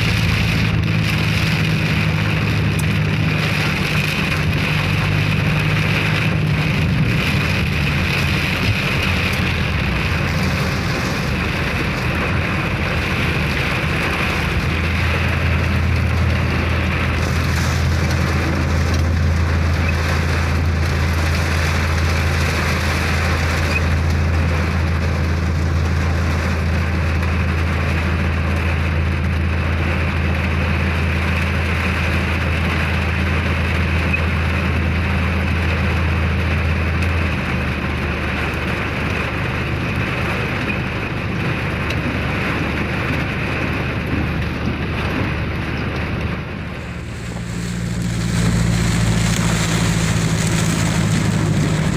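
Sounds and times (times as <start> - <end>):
heavy rain: 0.0 - 51.9
vehicle engine drone: 0.0 - 51.9.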